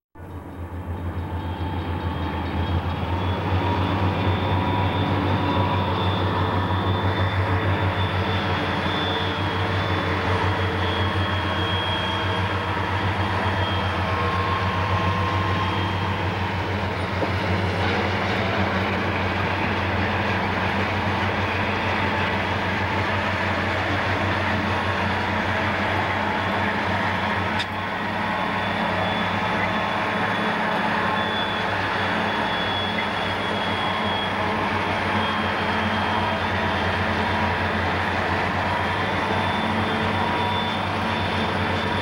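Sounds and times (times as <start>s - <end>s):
diesel locomotive engine drone: 0.1s - 42.0s
freight cars rolling past: 0.2s - 42.0s.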